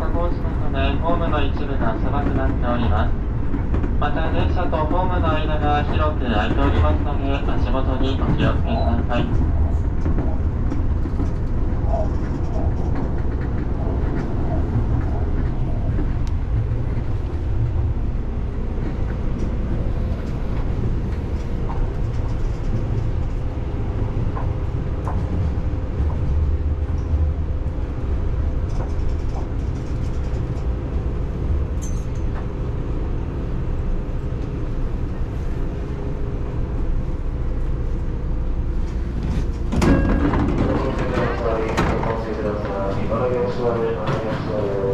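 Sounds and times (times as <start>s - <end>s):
train rumbling on rails: 0.0s - 44.9s.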